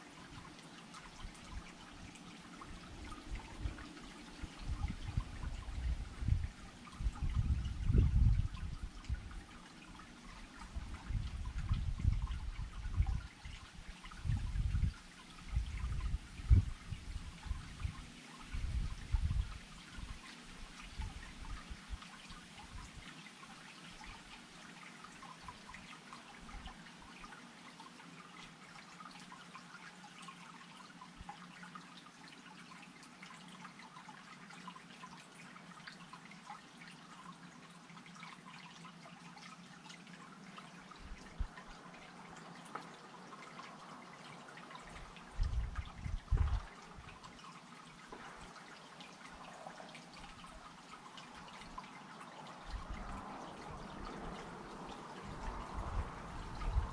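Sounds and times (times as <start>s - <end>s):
water dripping and trickling: 0.0s - 56.9s.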